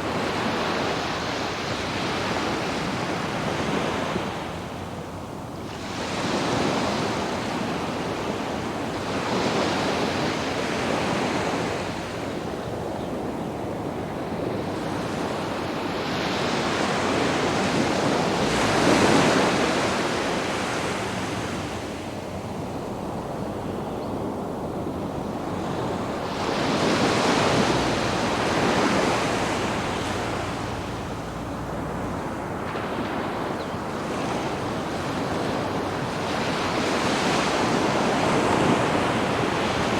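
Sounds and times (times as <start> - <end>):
sea waves breaking on a beach: 0.0 - 39.9.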